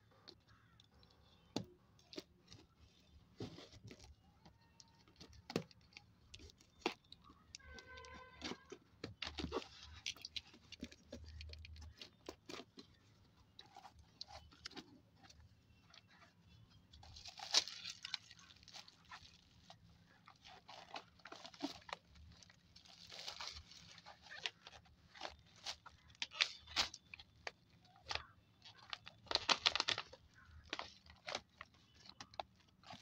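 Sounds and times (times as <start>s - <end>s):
bubble wrap crinkling: 2.0s - 33.0s.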